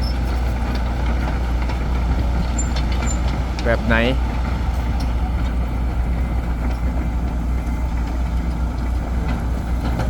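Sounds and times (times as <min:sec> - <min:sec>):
diesel engine running at low revs: 0:00.0 - 0:10.0.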